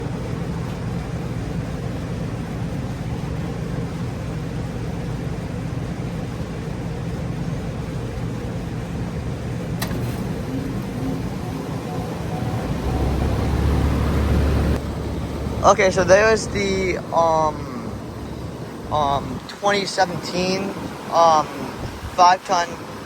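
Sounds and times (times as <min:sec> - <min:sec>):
air conditioner compressor humming: 0:00.0 - 0:23.0
condenser fan rushing: 0:00.0 - 0:23.0.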